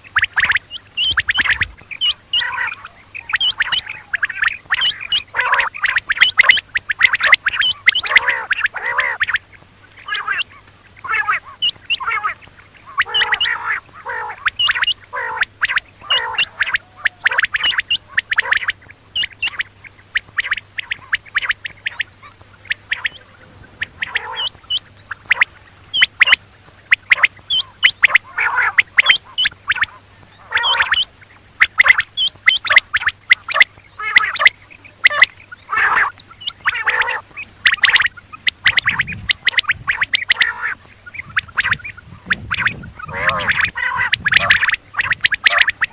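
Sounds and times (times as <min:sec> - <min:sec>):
quail calling: 0:00.0 - 0:45.9.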